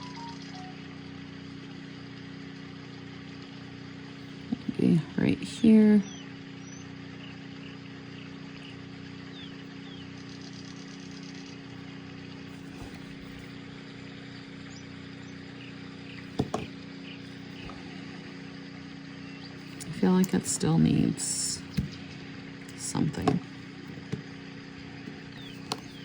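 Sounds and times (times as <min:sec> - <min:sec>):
low background hum with tones: 0:00.0 - 0:26.0.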